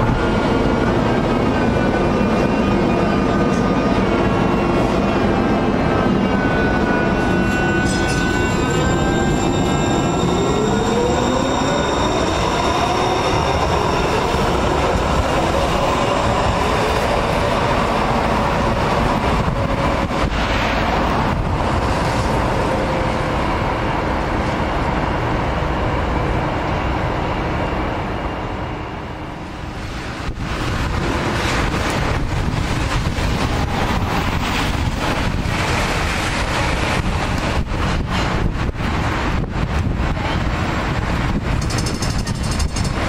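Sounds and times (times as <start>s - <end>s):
train running noise: 0.0s - 43.0s.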